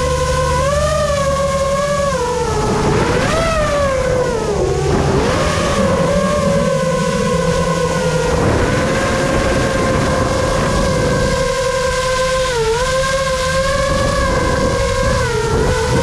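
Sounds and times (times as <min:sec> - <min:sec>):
car engines at high revs: 0:00.0 - 0:16.0
low rumble: 0:00.0 - 0:16.0.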